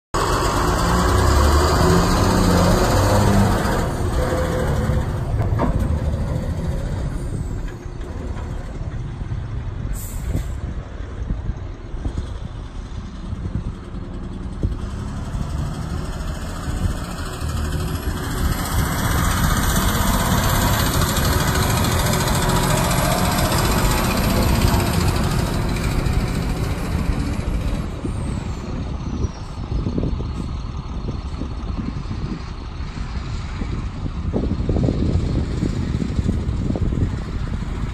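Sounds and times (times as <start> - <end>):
dump truck diesel engine: 0.2 - 37.9.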